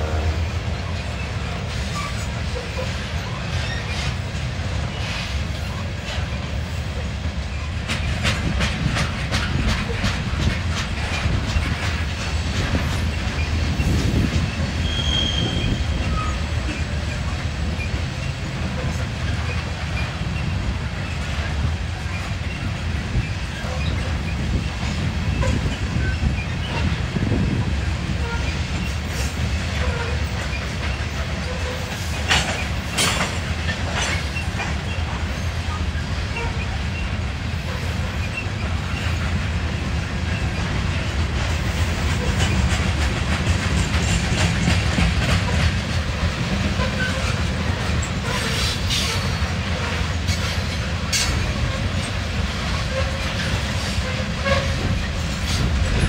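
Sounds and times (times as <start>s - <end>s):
sharp clicks of train wheels: 0.0s - 56.0s
train rumbling past: 0.0s - 56.0s.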